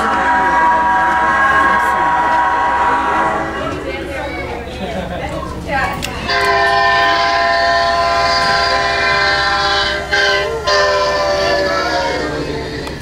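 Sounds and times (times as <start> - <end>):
locomotive air horn chord: 0.0 - 4.7, 6.1 - 13.0.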